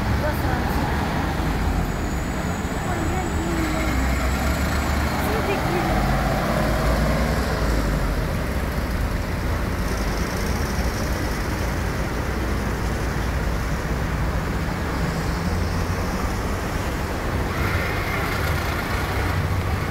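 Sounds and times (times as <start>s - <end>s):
cars driving past: 0.0s - 19.9s.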